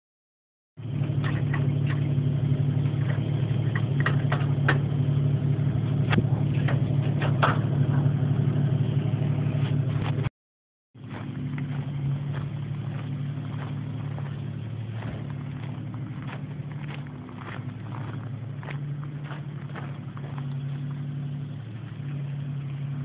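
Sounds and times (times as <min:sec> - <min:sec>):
car engine idling: 0:00.8 - 0:10.3, 0:11.0 - 0:23.0.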